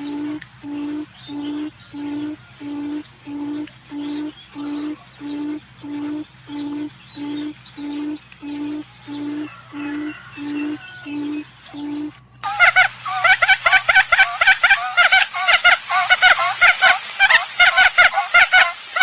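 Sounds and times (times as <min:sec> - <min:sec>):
high falling bird chirps: 0:00.0 - 0:16.5
low hooting bird call: 0:00.0 - 0:19.0.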